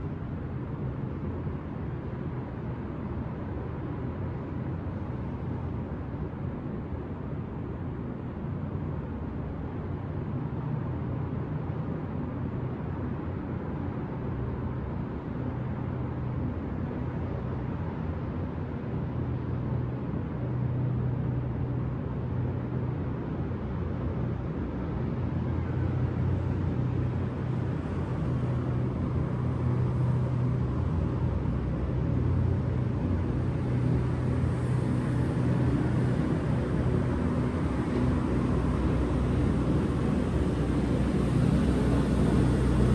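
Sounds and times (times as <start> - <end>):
city traffic hum: 0.0 - 42.9.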